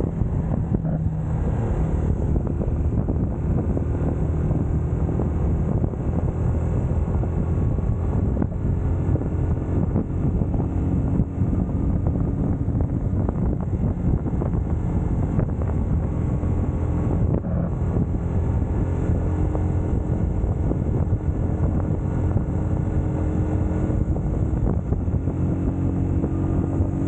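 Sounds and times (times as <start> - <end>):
motorcycle engine cruising: 0.0 - 27.0
wind buffeting microphone: 0.0 - 27.0.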